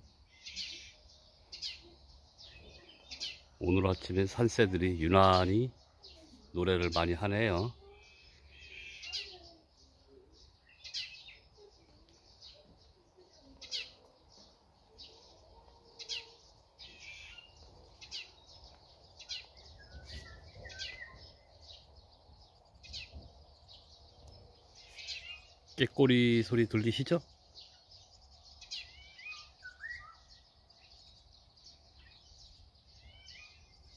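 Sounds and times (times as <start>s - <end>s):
wild birds singing: 0.0s - 33.9s
warbled bird phrases: 0.3s - 30.9s.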